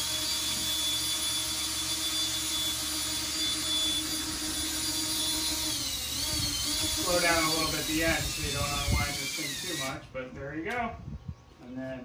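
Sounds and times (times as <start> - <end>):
cordless drill whining: 0.0 - 10.1.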